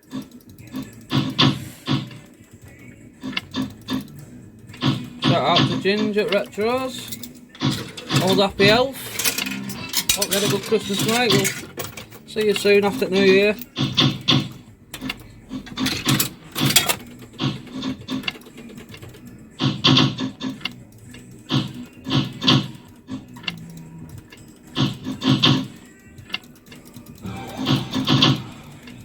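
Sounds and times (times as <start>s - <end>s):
electronic machine music: 0.0s - 29.0s
slot machine clattering: 0.0s - 29.0s.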